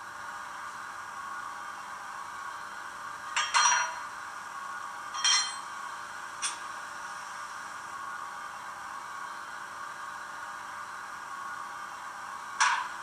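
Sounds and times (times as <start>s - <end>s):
steady locomotive hiss: 0.0s - 13.0s.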